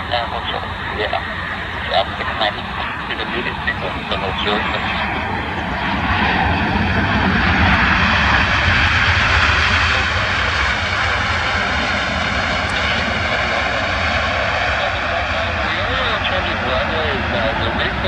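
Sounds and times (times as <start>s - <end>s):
jet engine reverse thrust roar: 0.0s - 18.0s.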